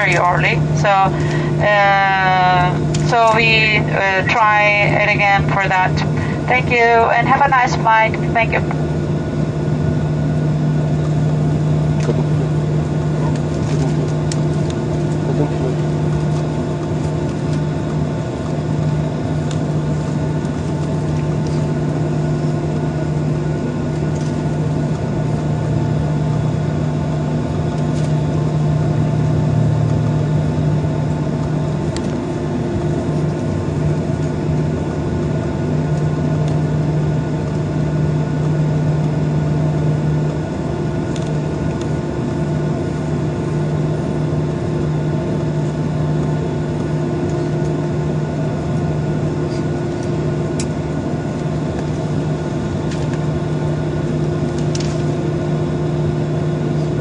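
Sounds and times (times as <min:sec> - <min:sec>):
jet engine hum in cabin: 0:00.0 - 0:57.0.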